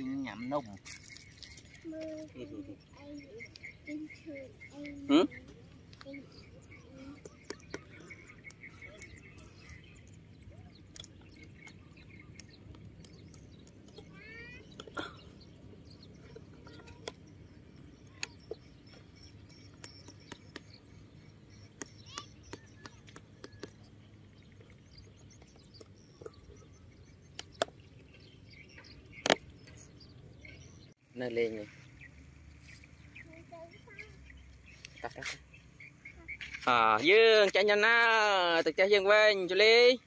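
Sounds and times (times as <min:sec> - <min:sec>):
bird chirping: 0:00.0 - 0:40.0.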